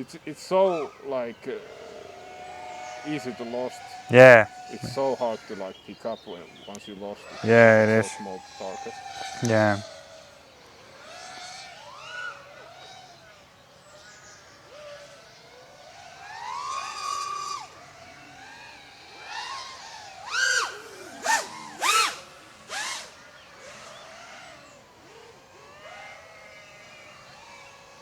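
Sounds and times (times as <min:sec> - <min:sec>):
quadcopter motors whining: 0:00.6 - 0:28.0.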